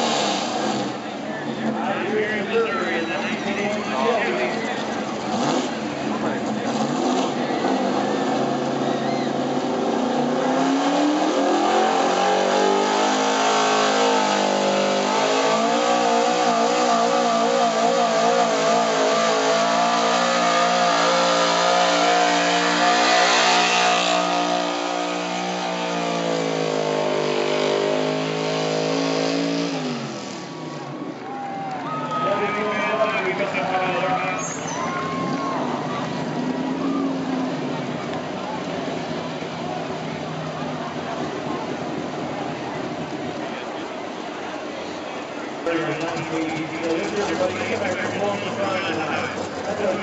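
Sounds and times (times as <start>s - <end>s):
truck engine running hard: 0.0s - 50.0s.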